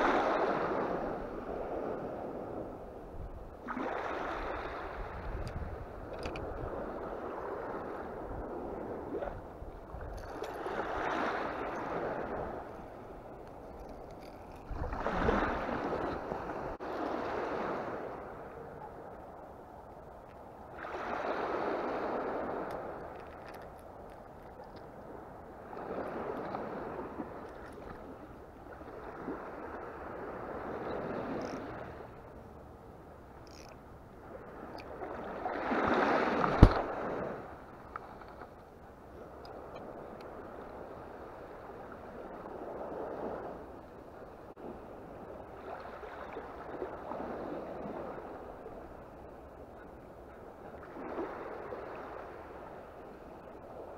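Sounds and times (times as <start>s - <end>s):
small waves washing on beach: 0.0s - 53.9s.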